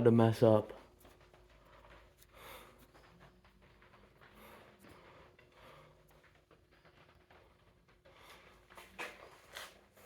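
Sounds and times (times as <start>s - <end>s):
soft rustles: 0.6s - 10.0s.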